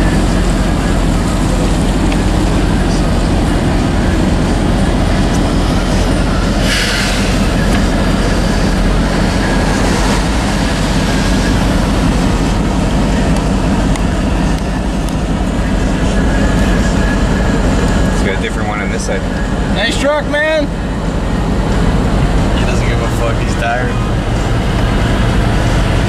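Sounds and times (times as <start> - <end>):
low hum: 0.0 - 26.0
vehicle engine and road noise: 0.0 - 26.0.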